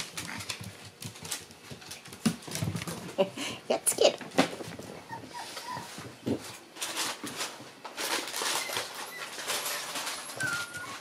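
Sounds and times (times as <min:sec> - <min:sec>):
paws clicking on wooden floor: 0:00.0 - 0:03.3, 0:04.2 - 0:11.0.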